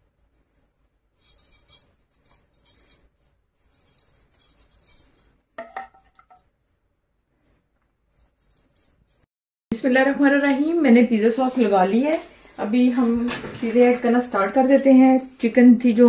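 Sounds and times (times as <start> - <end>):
metal bangles jingling: 0.0 - 6.8, 8.0 - 10.8, 11.8 - 13.2, 13.9 - 16.0.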